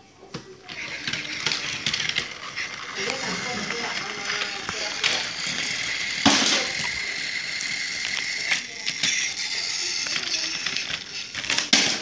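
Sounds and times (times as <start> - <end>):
toy train motor whirring: 0.6 - 12.0.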